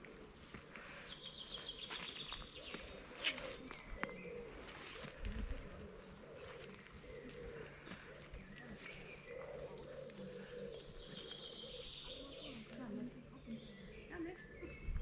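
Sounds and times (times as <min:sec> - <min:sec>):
low wavering cooing: 0:01.4 - 0:14.8.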